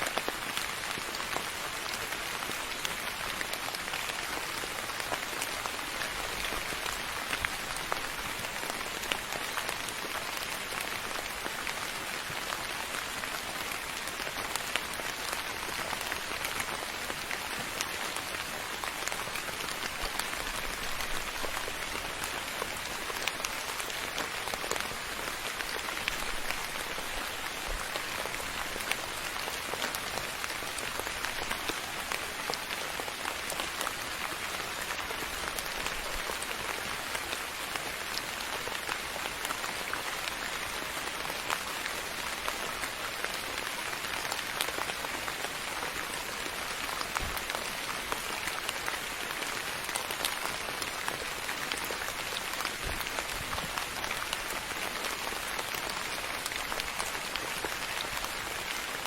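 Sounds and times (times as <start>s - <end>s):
soft rain hiss: 0.0s - 59.0s.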